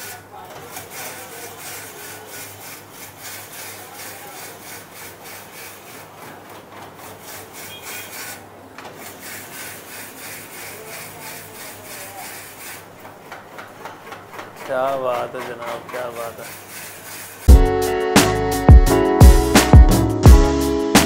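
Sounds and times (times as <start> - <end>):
ice being shaved: 0.0 - 17.5.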